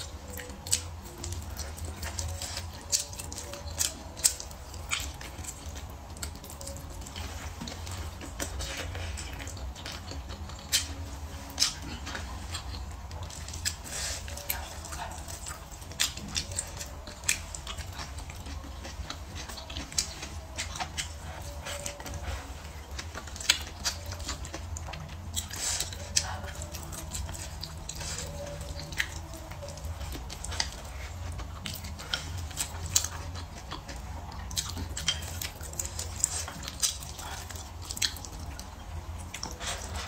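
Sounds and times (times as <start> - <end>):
chewing with wet mouth clicks: 0.0 - 40.0.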